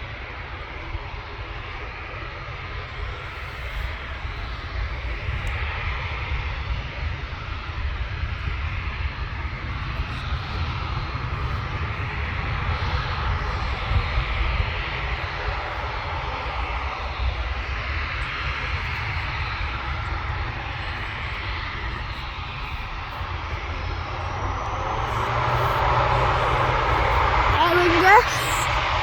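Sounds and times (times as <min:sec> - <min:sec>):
jet engines running: 0:00.2 - 0:29.0.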